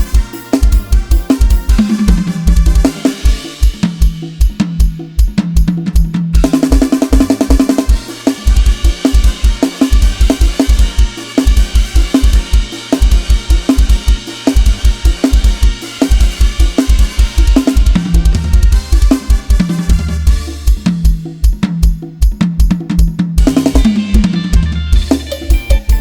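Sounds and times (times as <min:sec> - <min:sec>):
bass drum hits: 0:00.0 - 0:26.0
hi-hat and cymbals: 0:00.0 - 0:26.0
snare drum: 0:00.0 - 0:26.0.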